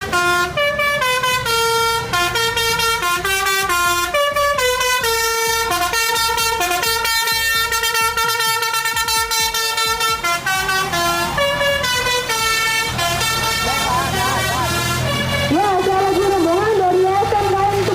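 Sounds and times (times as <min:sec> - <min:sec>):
musical bus air horn: 0:00.0 - 0:17.9.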